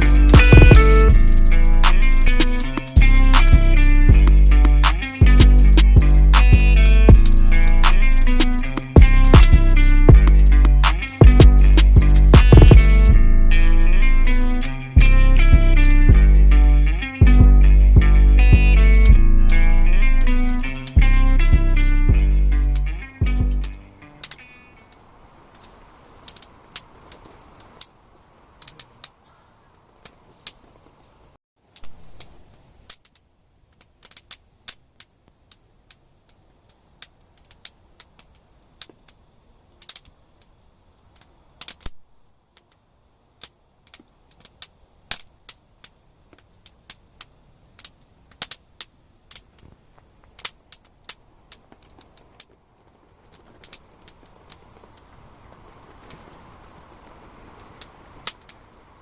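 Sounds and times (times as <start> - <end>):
campfire crackling and popping: 0.0 - 59.0
faint hiss: 0.0 - 59.0.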